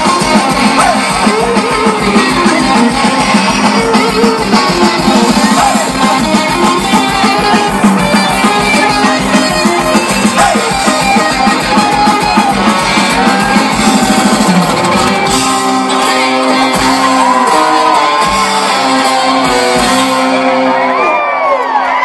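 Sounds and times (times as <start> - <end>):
guitars: 0.0 - 22.0.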